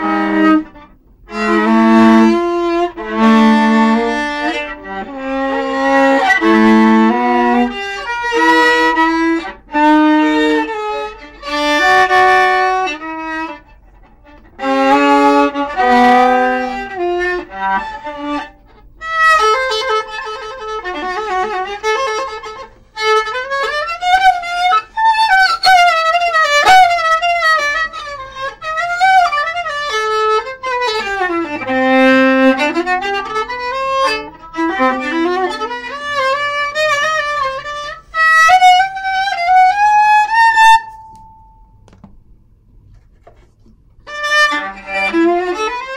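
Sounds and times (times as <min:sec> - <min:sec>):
bowed viola: 0:00.0 - 0:45.9.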